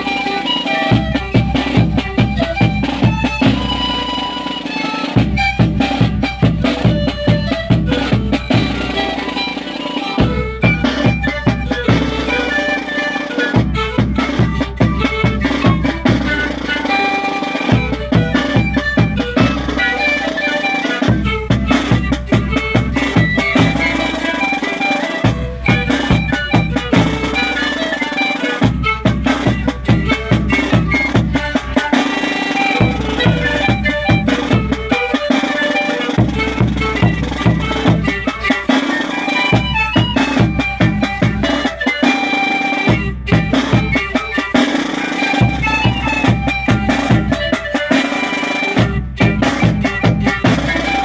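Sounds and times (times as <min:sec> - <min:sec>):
panpipe band playing: 0:00.0 - 0:51.0
snare drum beat: 0:00.0 - 0:51.0.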